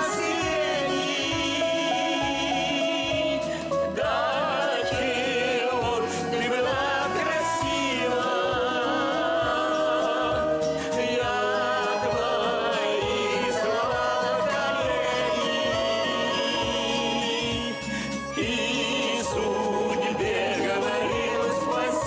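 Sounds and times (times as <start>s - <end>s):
instrumental backing with steady beat: 0.0s - 22.0s
person singing with vibrato: 0.0s - 22.0s.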